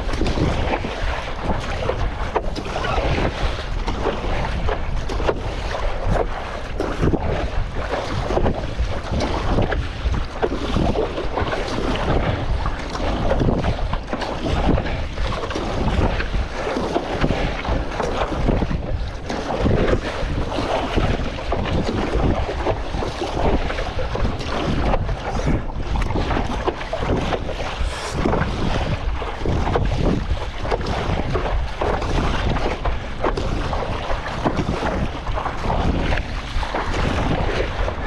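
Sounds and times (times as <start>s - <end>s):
choppy water splashing: 0.0s - 38.0s
wind buffeting microphone: 0.0s - 38.0s.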